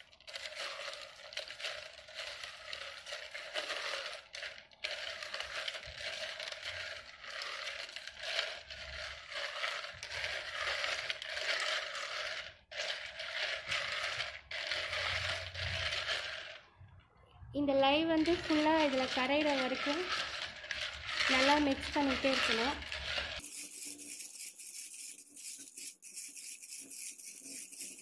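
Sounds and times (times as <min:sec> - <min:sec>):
ice grinding against container: 0:00.0 - 0:16.9, 0:18.0 - 0:28.0.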